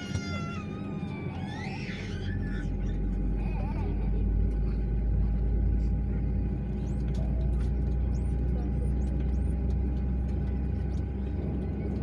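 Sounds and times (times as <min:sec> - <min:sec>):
airliner cabin rumble and hum: 0:00.0 - 0:12.0.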